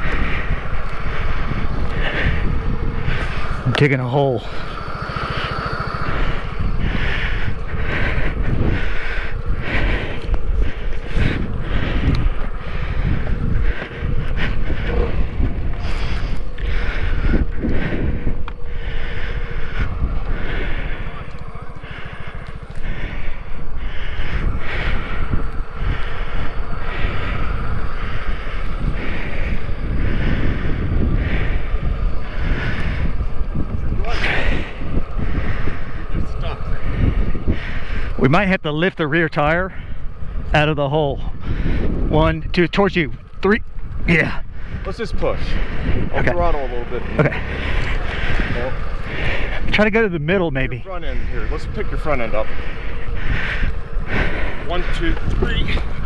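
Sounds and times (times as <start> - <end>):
scooter engine rumble: 0.0 - 56.0
wind buffeting microphone: 0.0 - 56.0.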